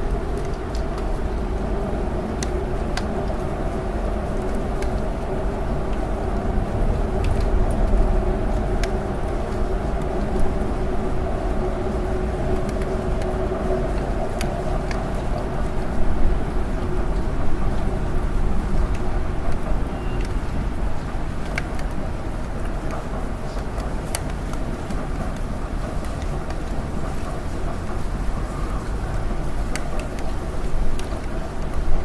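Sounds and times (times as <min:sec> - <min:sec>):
low rumble of road traffic: 0:00.0 - 0:32.0
raindrops ticking: 0:00.0 - 0:32.0.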